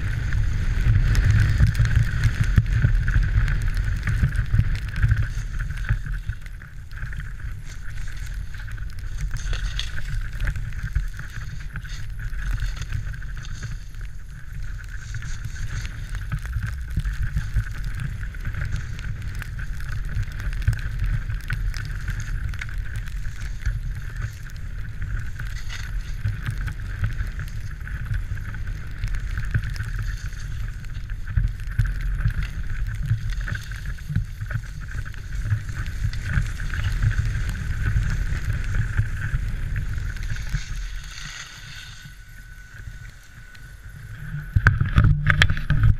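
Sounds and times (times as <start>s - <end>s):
skis hissing over snow: 0.0s - 44.5s
wind rumble on microphone: 0.0s - 45.9s.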